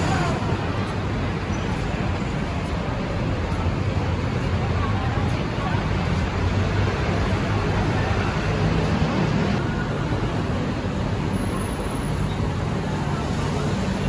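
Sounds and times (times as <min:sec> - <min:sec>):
city road traffic rumble: 0:00.0 - 0:14.0.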